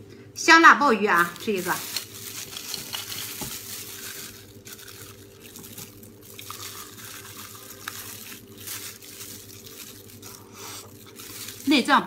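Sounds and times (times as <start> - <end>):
faint steady hum: 0.0 - 12.0
wet eating sounds: 1.2 - 12.0.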